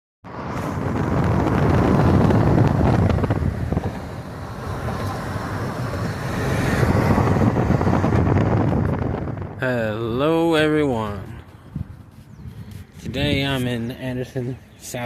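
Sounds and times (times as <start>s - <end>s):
wind buffeting microphone: 0.3s - 15.0s.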